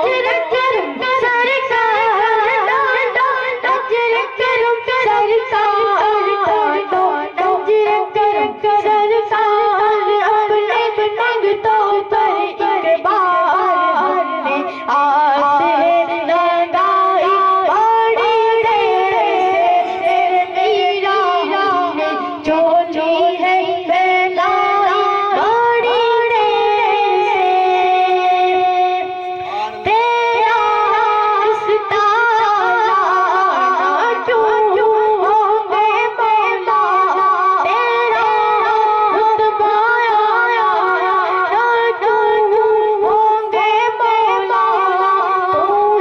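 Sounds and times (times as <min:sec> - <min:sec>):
boy singing into a microphone: 0:00.0 - 0:46.0.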